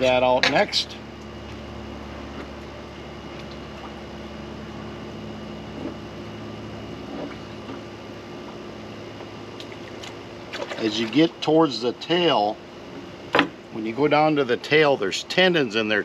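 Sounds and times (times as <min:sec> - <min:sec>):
low mechanical machine hum: 0:00.0 - 0:16.0.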